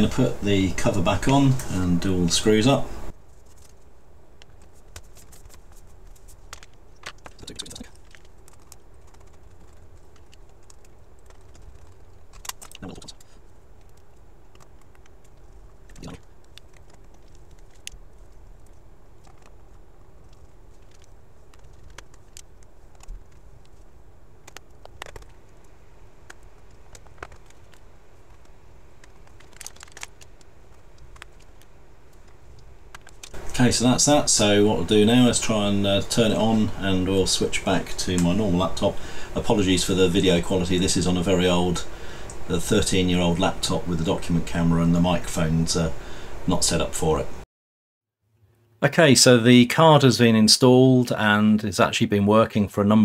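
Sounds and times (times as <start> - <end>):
low steady hum: 0.0 - 47.4.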